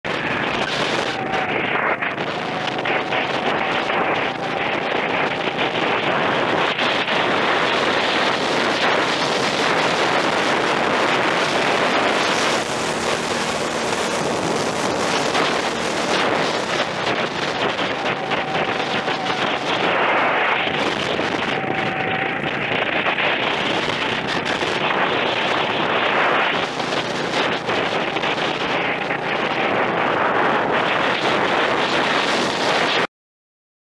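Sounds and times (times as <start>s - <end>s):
wind buffeting microphone: 0.0s - 33.1s.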